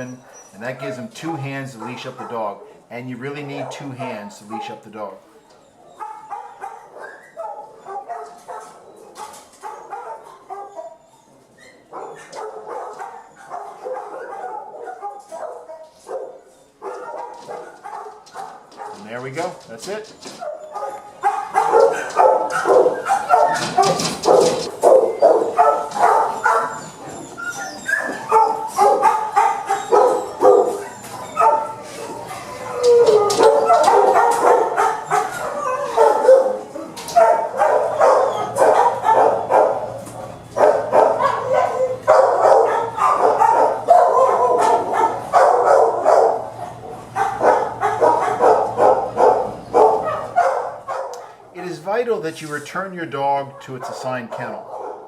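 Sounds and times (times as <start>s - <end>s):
dogs barking: 0.0s - 51.5s, 53.4s - 55.0s.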